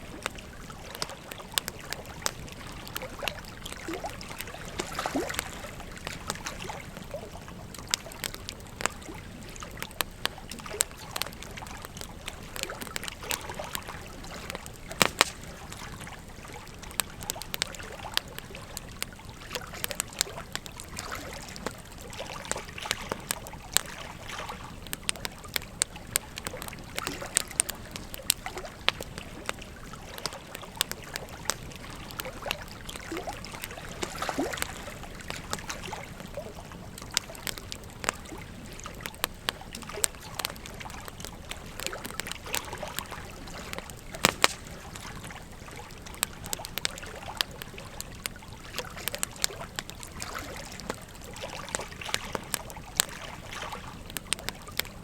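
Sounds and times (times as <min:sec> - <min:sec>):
flowing river water: 0:00.0 - 0:55.0
wood fire crackling and popping: 0:00.0 - 0:55.0.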